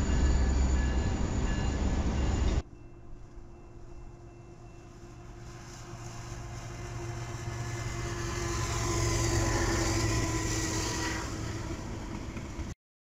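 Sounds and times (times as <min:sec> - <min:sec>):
diesel locomotives passing: 0:00.0 - 0:12.8.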